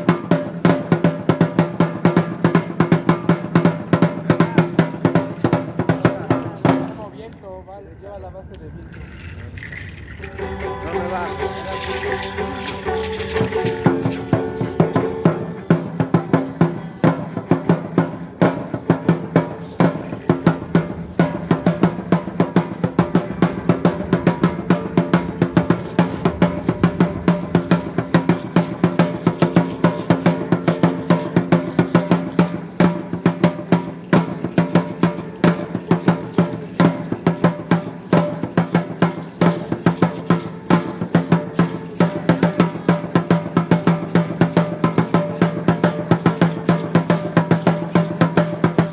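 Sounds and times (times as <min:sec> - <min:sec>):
large upright drum beating: 0:00.0 - 0:07.2, 0:08.8 - 0:48.9.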